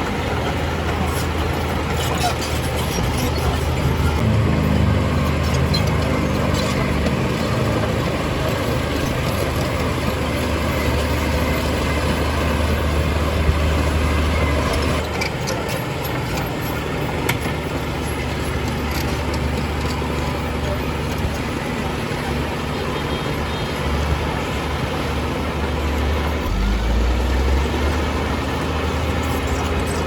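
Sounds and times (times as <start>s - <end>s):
heavy diesel machinery engine: 0.0s - 30.0s.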